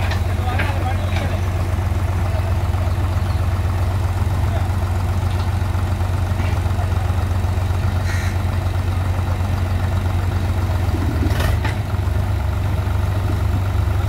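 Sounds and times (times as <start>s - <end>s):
diesel engines throbbing: 0.0s - 14.0s.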